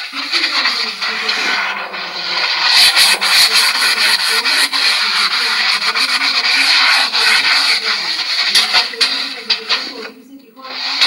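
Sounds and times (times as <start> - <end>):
hand scrubbing a surface: 0.0 - 11.0.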